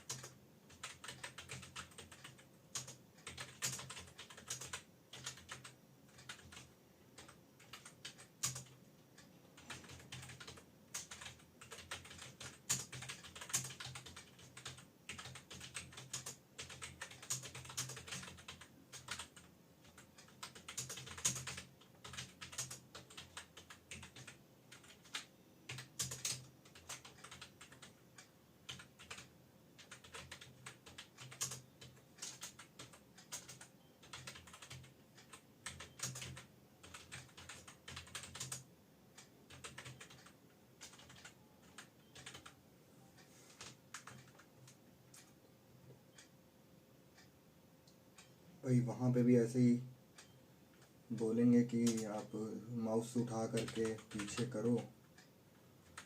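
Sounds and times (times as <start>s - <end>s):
keyboard typing: 0.0s - 45.5s, 48.1s - 56.0s.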